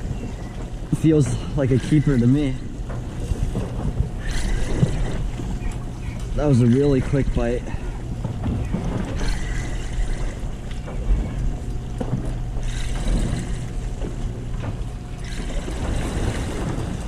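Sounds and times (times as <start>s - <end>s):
boat machinery drone: 0.0s - 17.0s
water noise: 0.0s - 17.0s
wind: 0.0s - 17.0s.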